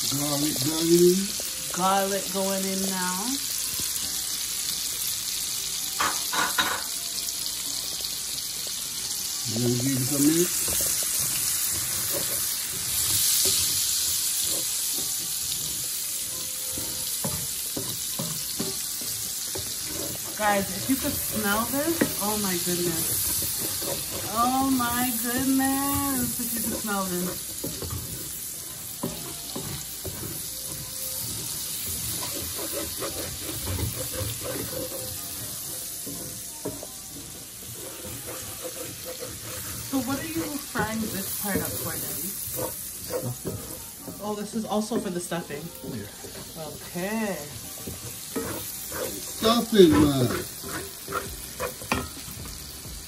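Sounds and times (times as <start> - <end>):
onion and garlic sizzling in butter: 0.0 - 53.0
wooden spatula scraping a pan: 9.8 - 52.8.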